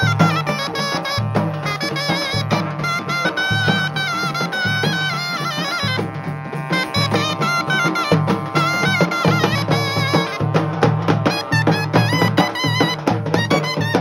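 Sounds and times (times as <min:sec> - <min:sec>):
wind instrument melody: 0:00.0 - 0:14.0.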